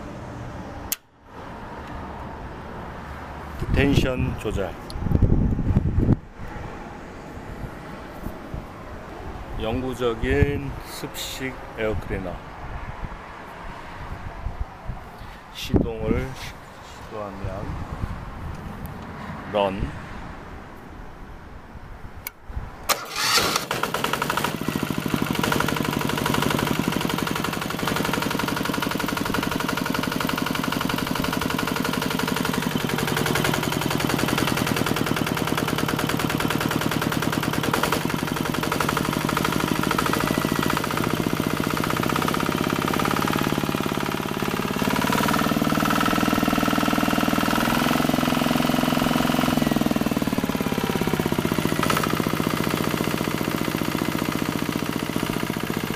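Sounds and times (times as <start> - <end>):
diesel engine starting and running: 0.0 - 13.0, 22.2 - 55.9.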